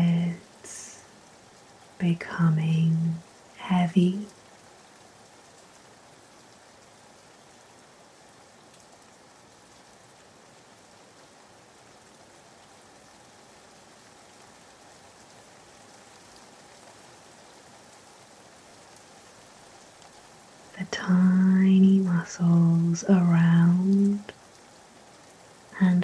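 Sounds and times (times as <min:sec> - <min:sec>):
soft rain hiss: 0:00.0 - 0:26.0.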